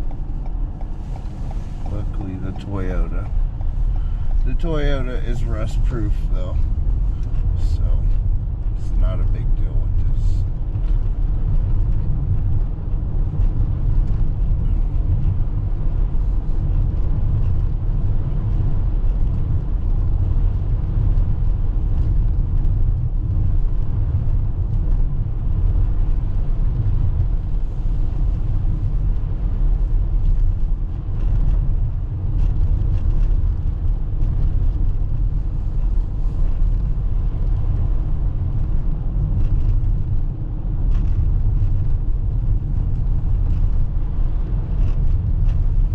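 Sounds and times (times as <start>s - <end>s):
tyre and drivetrain rumble: 0.0s - 45.9s.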